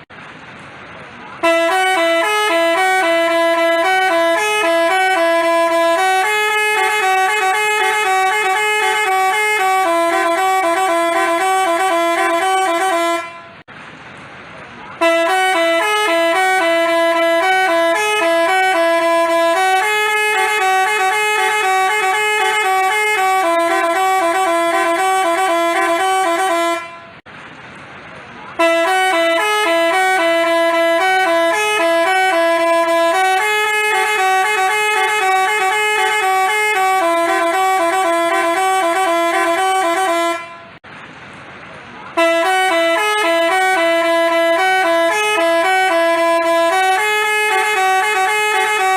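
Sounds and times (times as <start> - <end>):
musical bus horn playing tune: 1.3 - 13.7, 15.0 - 27.2, 28.5 - 40.8, 42.1 - 48.9.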